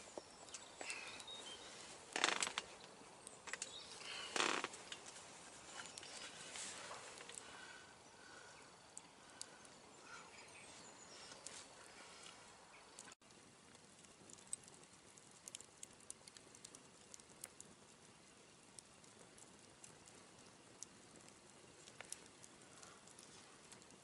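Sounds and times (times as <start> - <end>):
campfire crackling and popping: 0.0 - 10.6, 11.3 - 24.0.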